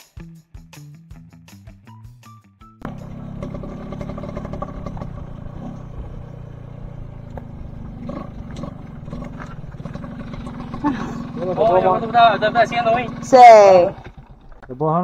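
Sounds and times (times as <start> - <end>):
motorcycle engine running: 2.8 - 14.9.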